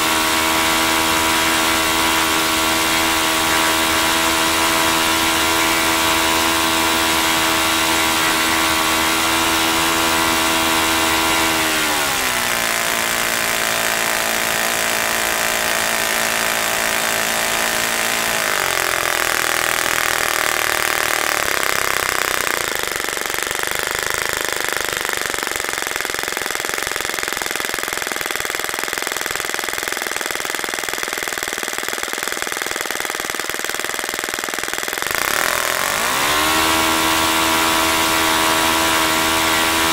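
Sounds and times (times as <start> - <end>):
model engine running propeller: 0.0 - 39.9.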